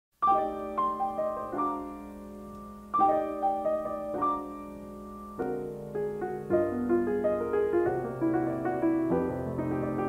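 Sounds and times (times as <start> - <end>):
jazz piano chords: 0.2 - 10.0.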